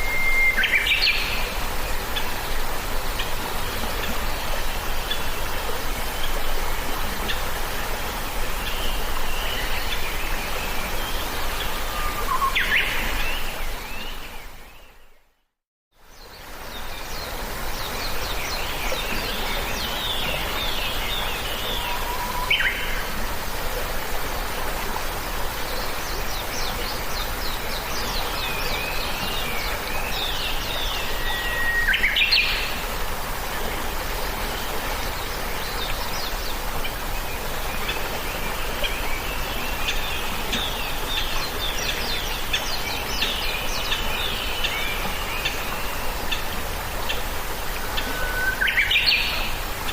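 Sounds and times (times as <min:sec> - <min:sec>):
steady background hiss: 0:00.0 - 0:15.2, 0:16.0 - 0:49.9.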